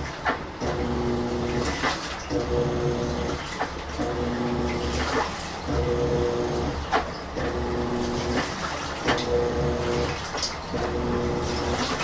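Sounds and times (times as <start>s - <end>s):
washing machine motor humming: 0.0s - 12.0s
water sloshing and splashing: 0.0s - 12.0s.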